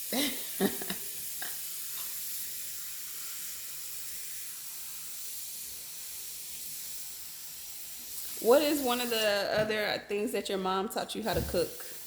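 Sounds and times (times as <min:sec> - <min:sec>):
food sizzling on stove: 0:00.0 - 0:12.0.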